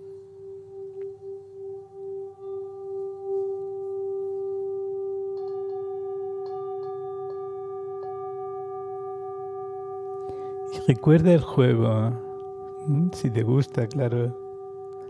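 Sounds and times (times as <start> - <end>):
steady bell-like ringing tone: 0.0 - 15.0.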